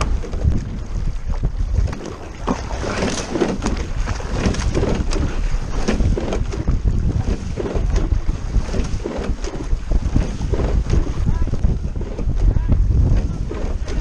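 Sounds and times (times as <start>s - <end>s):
water rushing along boat hull: 0.0s - 14.0s
wind rumbling on microphone: 0.0s - 14.0s.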